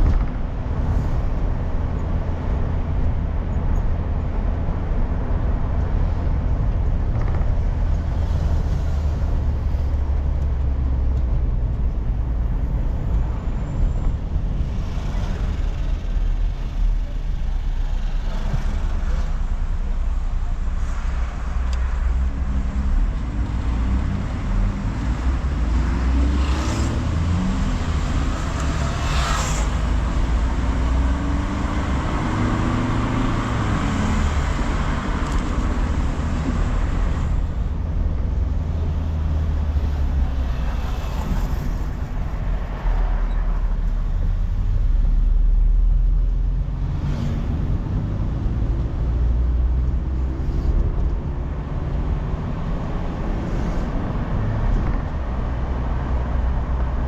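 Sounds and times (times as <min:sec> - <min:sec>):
tyre road noise: 0:00.0 - 0:57.0.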